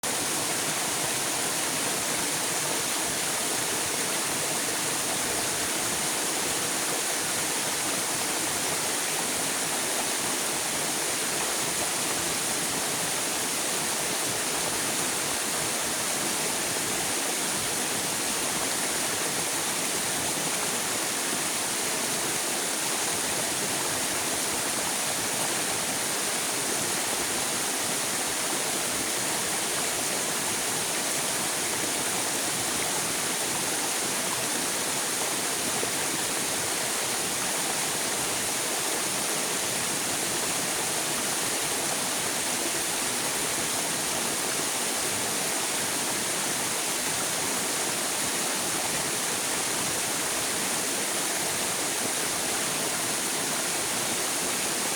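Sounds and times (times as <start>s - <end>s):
river water rushing: 0.1s - 54.9s.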